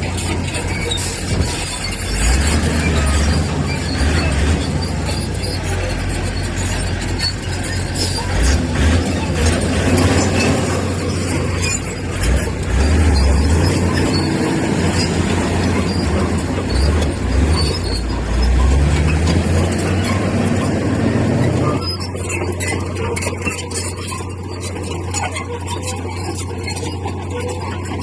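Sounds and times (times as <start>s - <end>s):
bulldozer diesel engine rumbling: 0.0s - 28.0s
sharp metal clanks and clatter: 0.0s - 28.0s.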